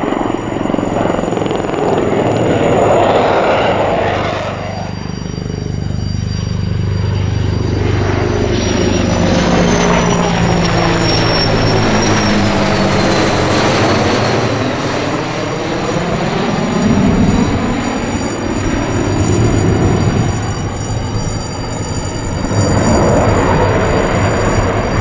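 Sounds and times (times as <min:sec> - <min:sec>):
helicopter drone: 0:00.0 - 0:25.0
jet engine roar and whine: 0:00.0 - 0:25.0.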